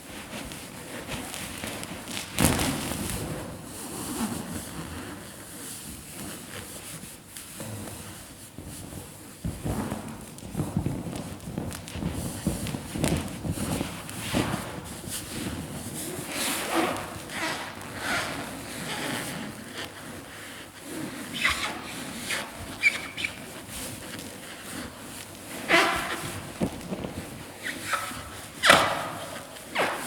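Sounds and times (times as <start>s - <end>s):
balloons rubbing and squeaking: 0.1s - 30.0s.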